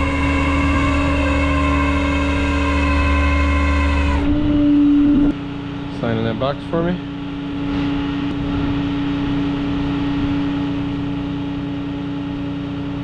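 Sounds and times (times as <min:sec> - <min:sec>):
truck engine idling: 0:00.0 - 0:12.2.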